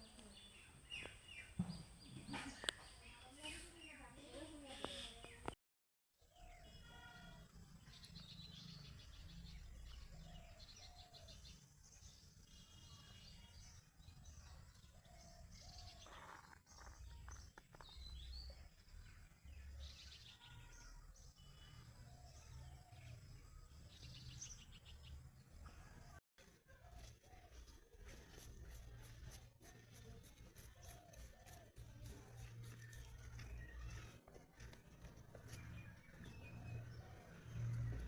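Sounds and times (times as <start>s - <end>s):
small birds chirping and trilling: 0.0s - 5.6s, 6.2s - 26.2s, 26.9s - 38.0s.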